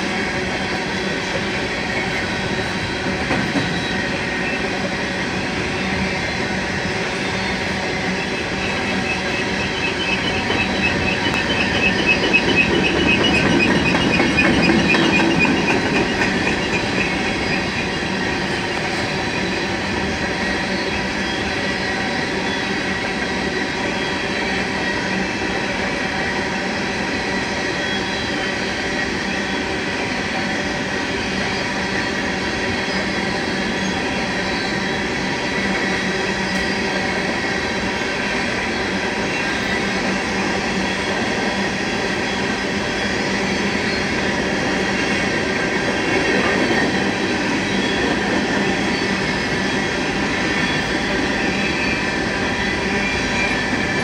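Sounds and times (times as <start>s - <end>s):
train wheels rumbling on rails: 0.0s - 54.0s
high wheel squeal: 3.6s - 26.4s, 27.0s - 54.0s.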